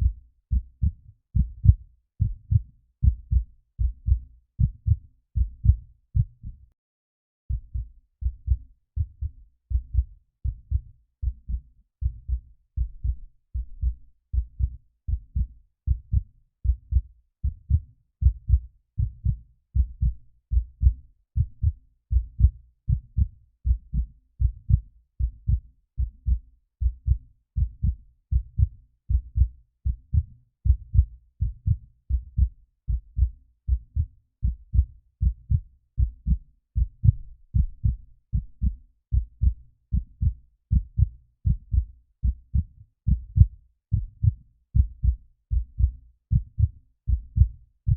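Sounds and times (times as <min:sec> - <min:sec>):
heartbeat thumps: 0:00.0 - 0:06.6, 0:07.5 - 0:47.9.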